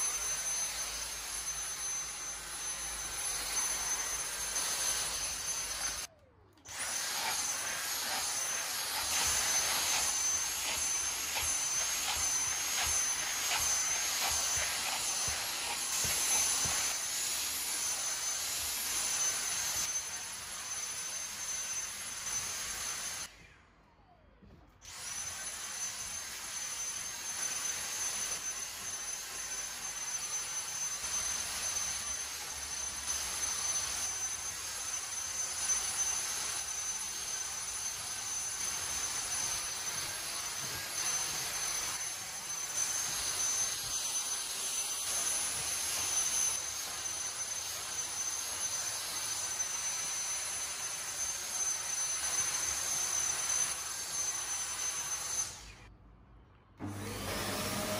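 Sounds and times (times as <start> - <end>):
vacuum motor whine: 0.0 - 55.9, 56.8 - 57.9.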